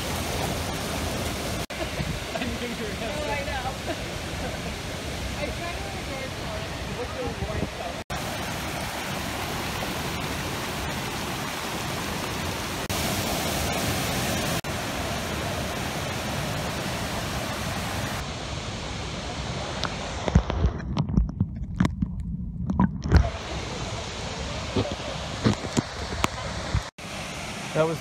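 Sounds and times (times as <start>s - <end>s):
waterfall roaring: 0.0s - 20.7s, 23.2s - 28.0s.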